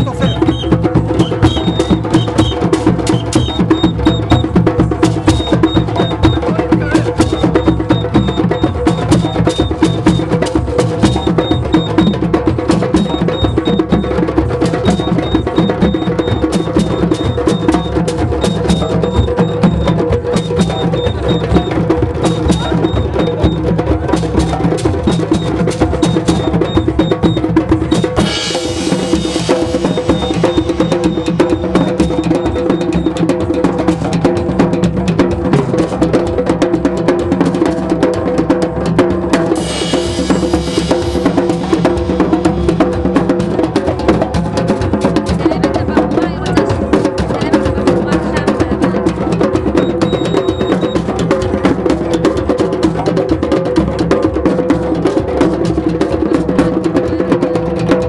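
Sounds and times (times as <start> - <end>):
hand drums playing fast rhythm: 0.0 - 58.0.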